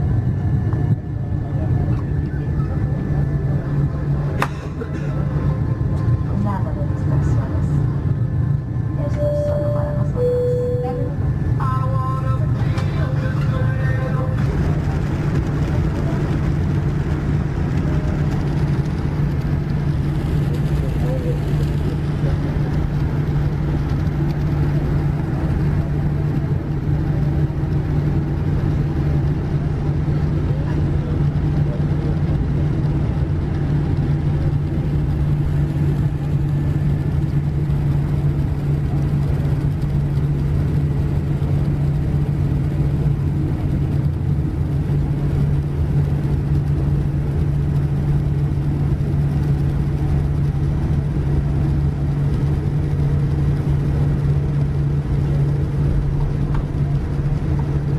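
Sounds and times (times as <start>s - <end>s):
aircraft cabin engine hum: 0.0s - 57.9s.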